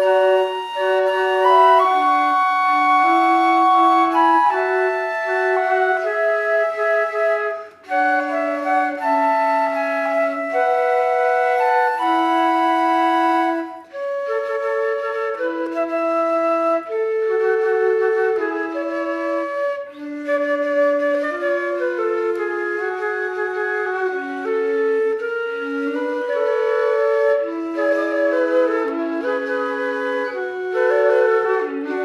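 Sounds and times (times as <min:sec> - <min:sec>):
flutes playing slow melody: 0:00.0 - 0:32.0.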